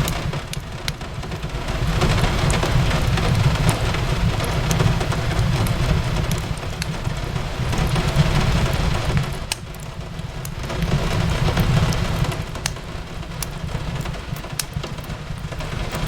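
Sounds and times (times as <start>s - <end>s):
fireplace crackling: 0.0s - 16.0s
rain on a window: 0.0s - 16.0s.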